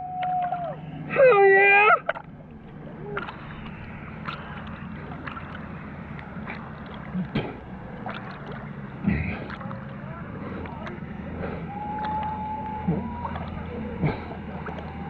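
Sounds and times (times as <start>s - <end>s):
boat motor humming: 0.0s - 15.0s
water lapping and splashing: 0.0s - 15.0s.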